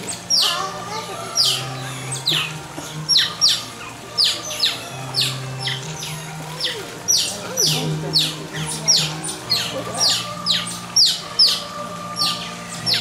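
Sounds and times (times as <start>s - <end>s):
otters chirping: 0.0s - 13.0s.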